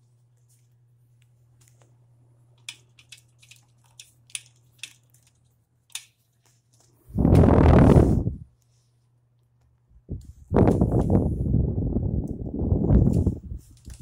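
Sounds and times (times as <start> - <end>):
electric fan motor hum: 0.0 - 8.6, 9.7 - 14.0.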